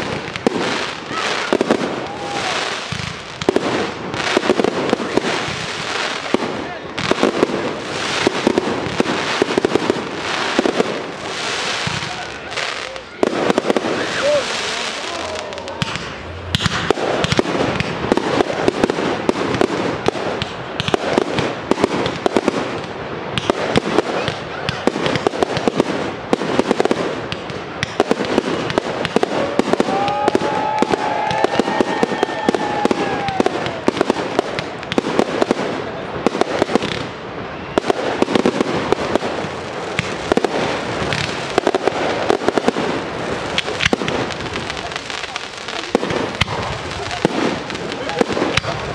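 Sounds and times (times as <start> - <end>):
fireworks bursts and crackling: 0.0 - 48.9.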